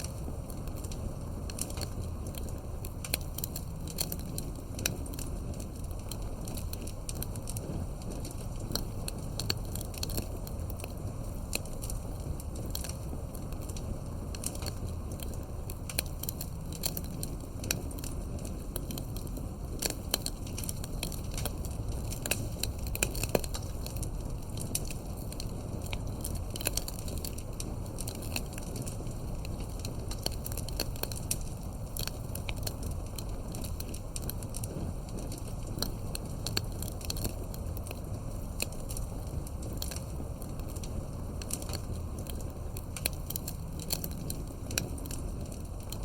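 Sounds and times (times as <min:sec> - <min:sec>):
burning wood crackling: 0:00.0 - 0:46.0
low rumble of flames: 0:00.0 - 0:46.0.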